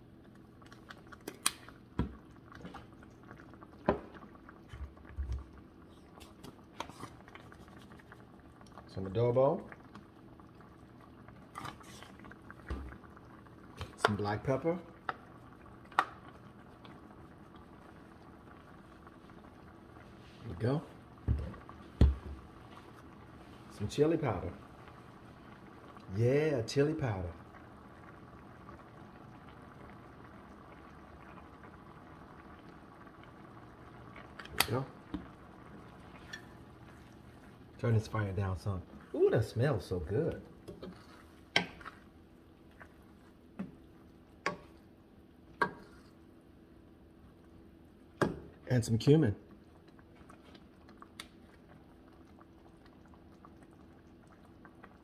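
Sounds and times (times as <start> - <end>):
food simmering in a skillet: 0.0 - 55.0.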